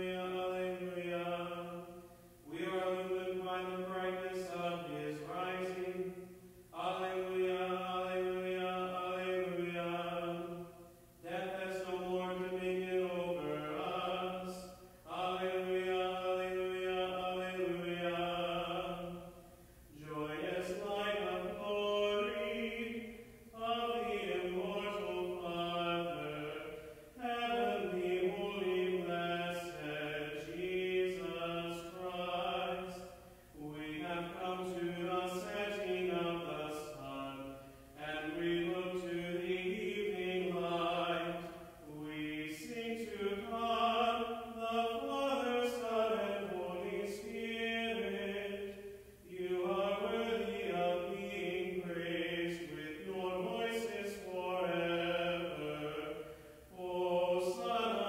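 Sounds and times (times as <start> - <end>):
man chanting: 0.0 - 1.9, 2.5 - 19.3, 19.9 - 58.0.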